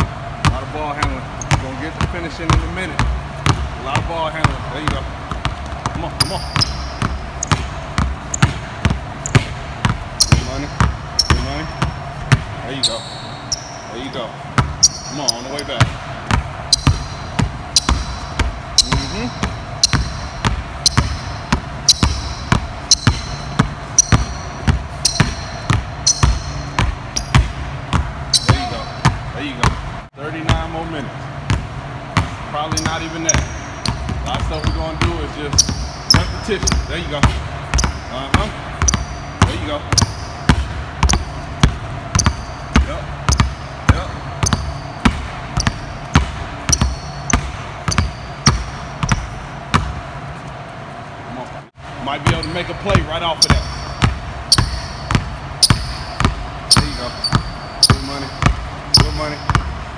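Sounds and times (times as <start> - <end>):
basketballs bouncing on wooden floor: 0.0 - 13.8, 14.5 - 30.8, 31.5 - 50.1, 52.2 - 59.9
shoe squeaks: 1.3 - 3.0, 5.6 - 15.8, 16.6 - 27.6, 28.3 - 29.2, 32.6 - 49.4, 52.2 - 59.7.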